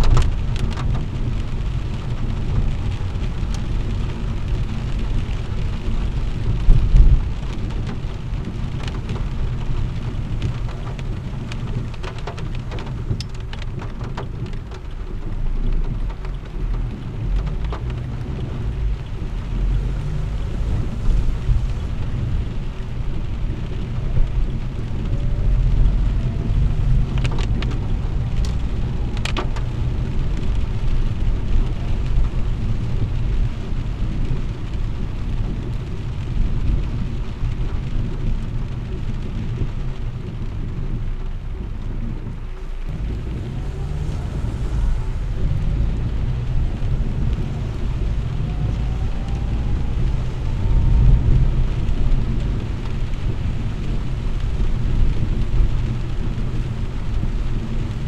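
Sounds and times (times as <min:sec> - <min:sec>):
heavy rain on car roof: 0:00.0 - 0:58.0
low car rumble: 0:00.0 - 0:58.0.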